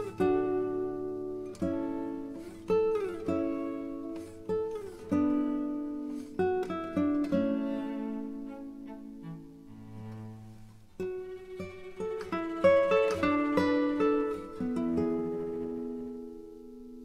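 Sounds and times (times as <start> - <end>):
plucked-string instrumental music: 0.0 - 17.0.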